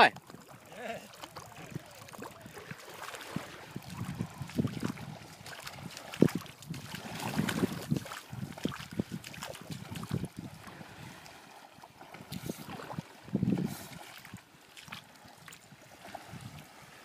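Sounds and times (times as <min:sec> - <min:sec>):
water lapping and sloshing: 0:00.0 - 0:17.0
wind buffeting microphone: 0:01.3 - 0:11.4, 0:12.0 - 0:17.0.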